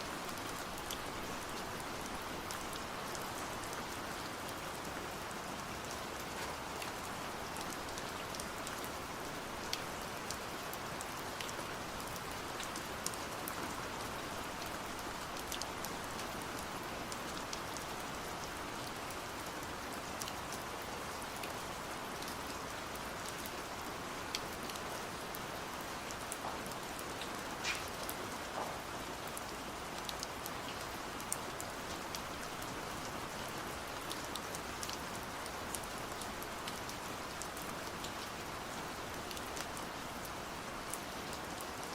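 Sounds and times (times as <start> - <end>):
rain drops pattering: 0.0 - 41.9.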